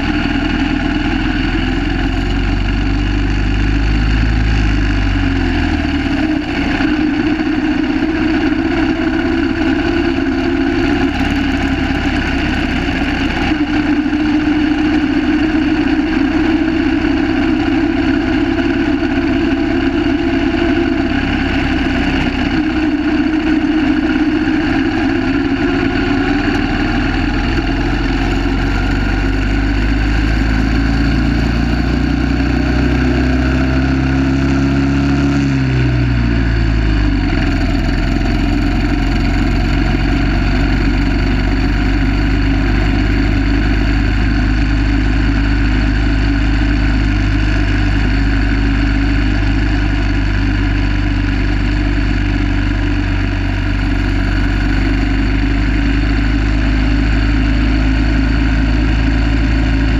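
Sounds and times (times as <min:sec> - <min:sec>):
motorcycle engine under way: 0:00.0 - 0:59.9.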